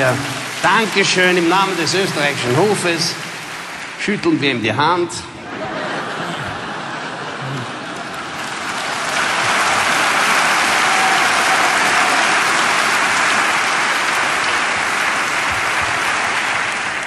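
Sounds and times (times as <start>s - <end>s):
audience applauding: 0.0s - 4.6s, 5.6s - 17.0s.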